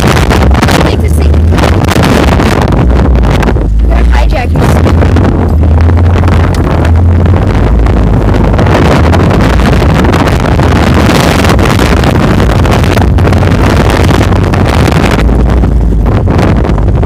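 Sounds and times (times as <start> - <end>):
vehicle engine hum: 0.0 - 17.0
wind rushing on microphone: 0.0 - 17.0.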